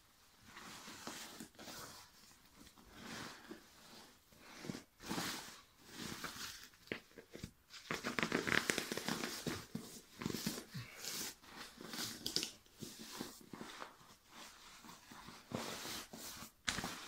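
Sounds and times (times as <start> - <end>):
fabric rustling and crinkling: 0.0 - 17.0.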